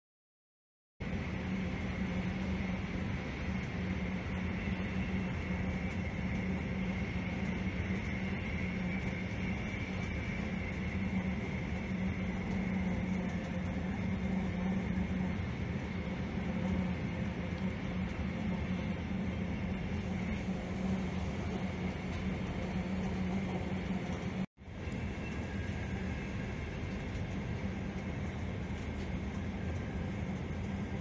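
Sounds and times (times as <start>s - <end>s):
constant low hum: 1.0s - 31.0s
train rumble: 1.0s - 31.0s.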